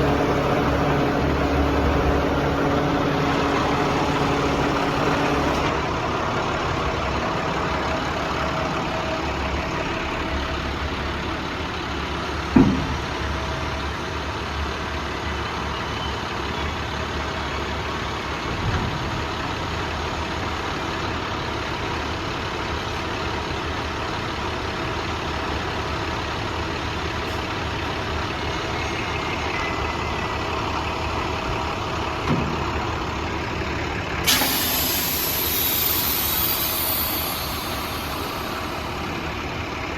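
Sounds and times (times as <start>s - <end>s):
diesel engine idling: 0.0s - 15.6s, 16.4s - 39.9s.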